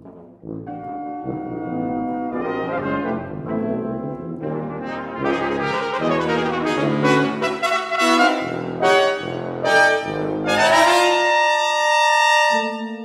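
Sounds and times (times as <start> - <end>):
brass quintet playing: 0.0 - 13.0.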